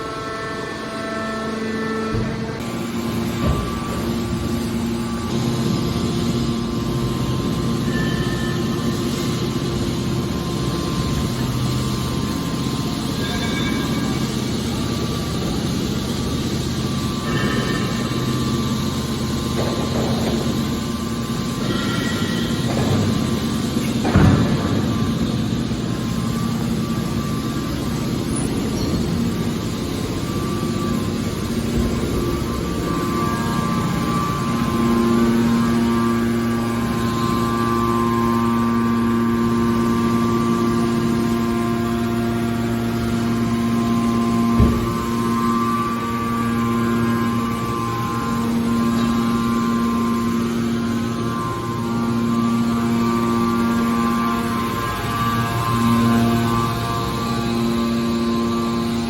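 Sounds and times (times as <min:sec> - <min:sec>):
hydraulic baler machine drone: 0:00.0 - 0:59.0.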